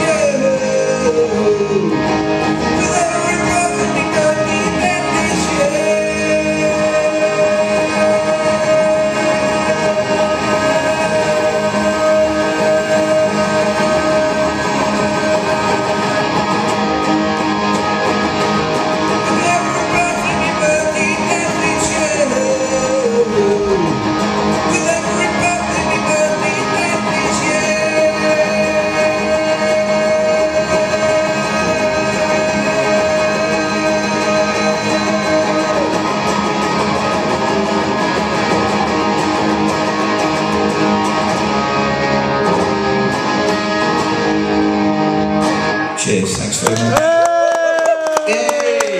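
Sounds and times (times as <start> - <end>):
electric guitar strumming rock: 0.0 - 48.9.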